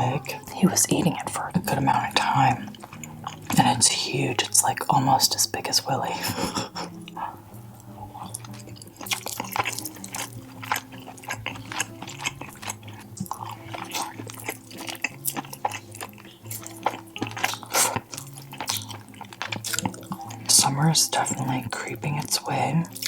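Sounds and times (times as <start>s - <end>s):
chewing food: 0.0s - 23.0s
faint background music: 0.0s - 23.0s.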